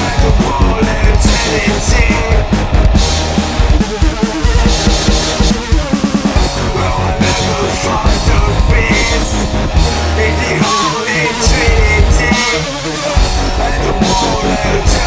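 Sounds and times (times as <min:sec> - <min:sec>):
dubstep music with heavy bass: 0:00.0 - 0:15.0
rapid kick-drum hits: 0:00.0 - 0:15.0.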